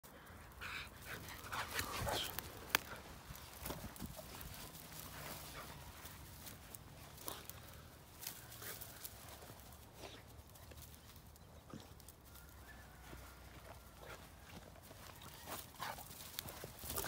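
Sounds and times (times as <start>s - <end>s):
dogs scuffling on grass: 0.6s - 17.0s.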